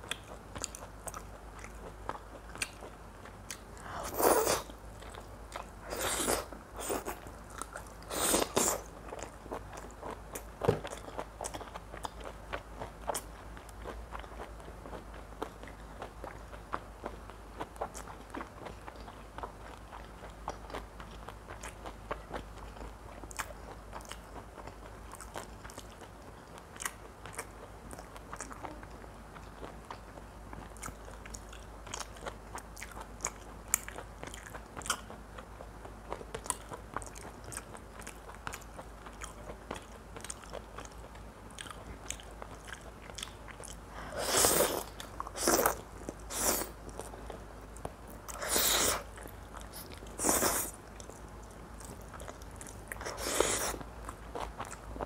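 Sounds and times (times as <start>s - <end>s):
wet chewing and mouth clicks: 0.0s - 55.0s.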